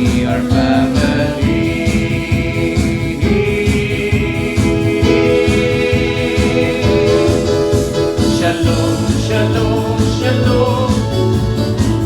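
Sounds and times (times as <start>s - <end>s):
worship band music: 0.0s - 12.0s.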